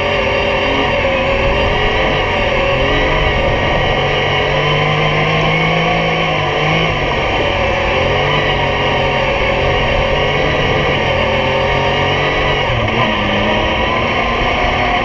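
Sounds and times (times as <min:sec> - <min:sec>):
vehicle engine revving under load: 0:00.0 - 0:15.0.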